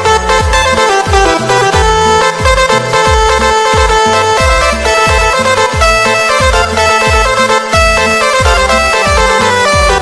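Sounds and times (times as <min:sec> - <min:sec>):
held synth melody: 0:00.0 - 0:10.0
kick drum beat: 0:00.0 - 0:10.0.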